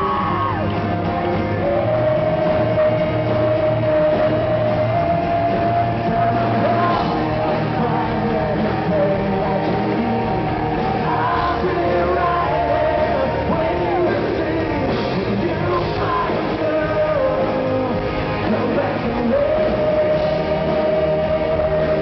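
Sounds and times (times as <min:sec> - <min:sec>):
electric guitar: 0:00.0 - 0:22.0
live rock band playing: 0:00.0 - 0:22.0
man singing: 0:00.0 - 0:22.0.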